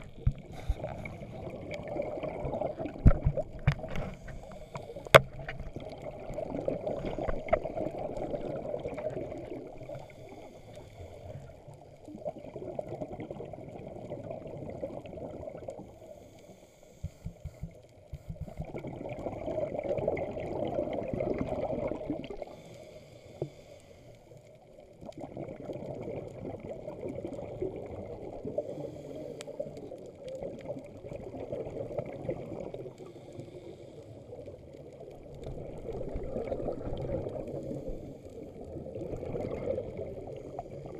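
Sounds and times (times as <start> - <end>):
muffled water rushing and sloshing: 0.0 - 40.9.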